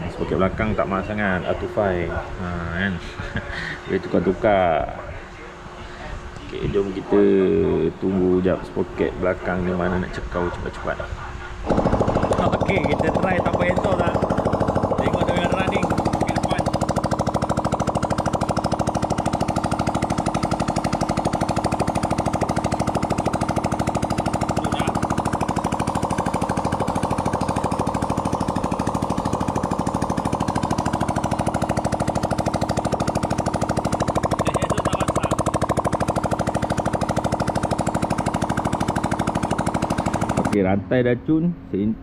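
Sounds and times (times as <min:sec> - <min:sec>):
motorcycle engine without exhaust: 0:00.0 - 0:42.0.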